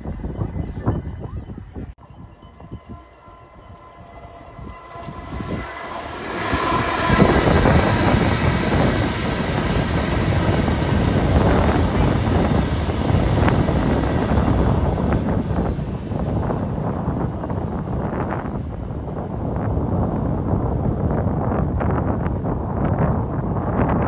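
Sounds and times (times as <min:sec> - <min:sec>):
wheels running on rails: 0:00.0 - 0:19.8
train passing: 0:00.0 - 0:24.0.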